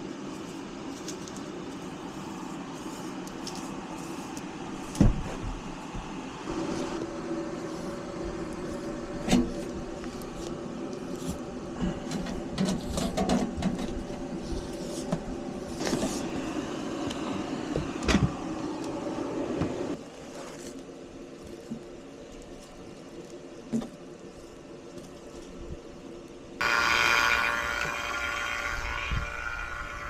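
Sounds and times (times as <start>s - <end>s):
steady machine hum: 0.0s - 20.0s, 20.9s - 30.0s.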